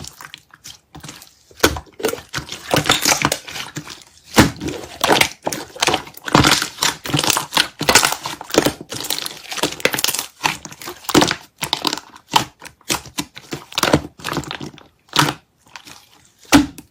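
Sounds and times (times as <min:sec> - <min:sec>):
slime crackling and popping: 0:00.0 - 0:16.9.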